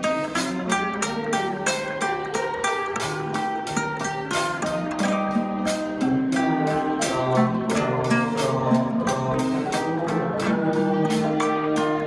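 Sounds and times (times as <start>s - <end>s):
string ensemble melody: 0.0s - 12.0s.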